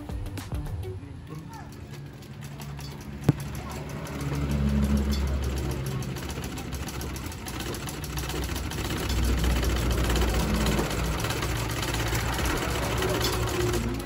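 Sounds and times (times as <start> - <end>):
sewing machine clattering: 1.2 - 14.0.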